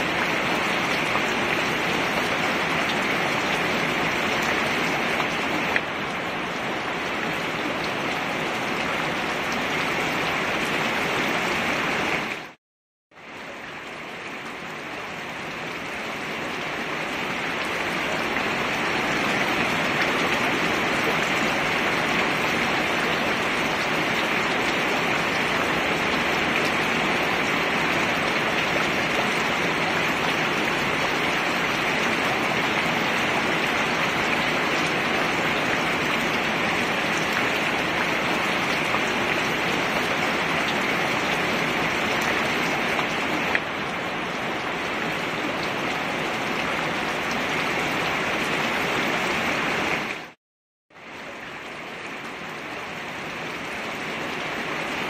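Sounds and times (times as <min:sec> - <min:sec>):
rain on a plastic lid: 0:00.0 - 0:12.6, 0:13.2 - 0:55.0.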